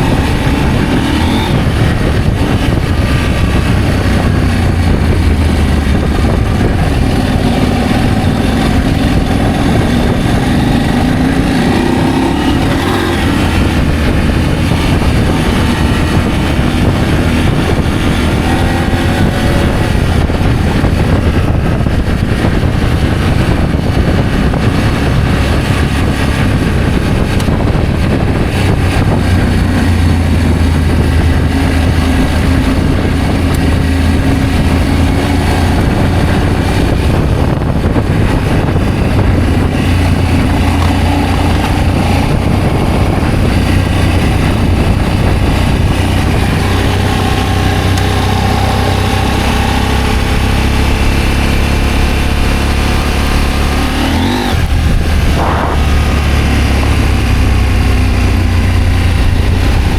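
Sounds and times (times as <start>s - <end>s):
motorcycle engine rumble: 0.0s - 59.9s
wind noise on microphone: 0.0s - 59.9s.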